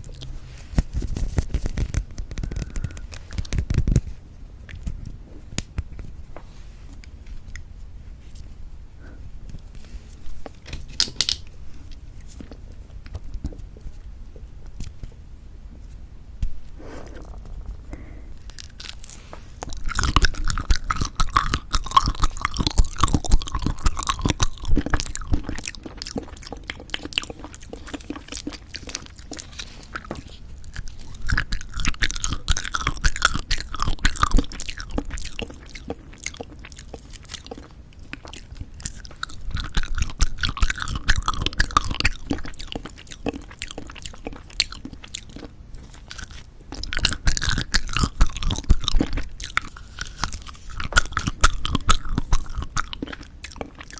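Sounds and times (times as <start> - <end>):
jelly candy chewing: 0.0 - 6.2, 8.3 - 15.2, 16.6 - 53.9.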